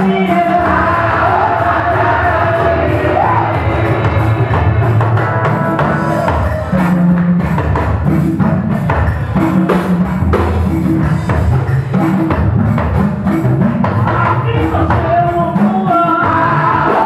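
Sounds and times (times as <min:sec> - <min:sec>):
bass guitar line: 0:00.0 - 0:17.0
drum kit and percussion: 0:00.0 - 0:17.0.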